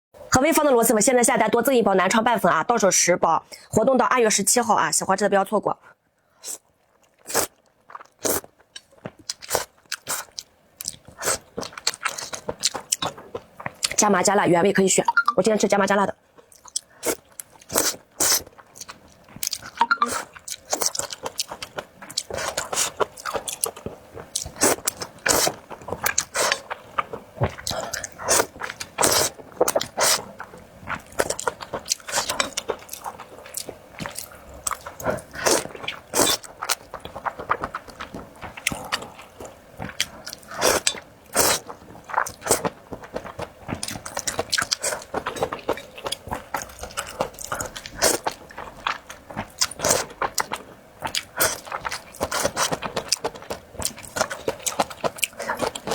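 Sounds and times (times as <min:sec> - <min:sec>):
person chewing crunchy food: 0:06.4 - 0:14.0, 0:16.3 - 0:55.9.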